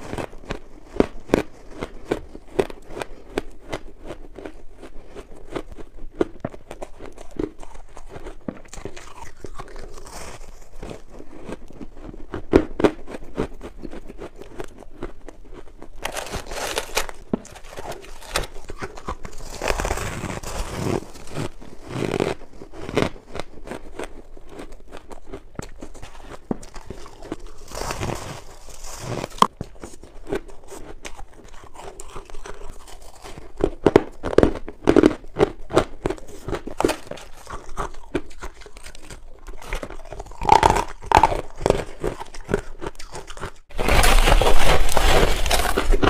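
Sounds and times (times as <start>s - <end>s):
fingers squeezing packed ice: 0.0s - 46.0s
ice crunching while chewed: 0.0s - 46.0s.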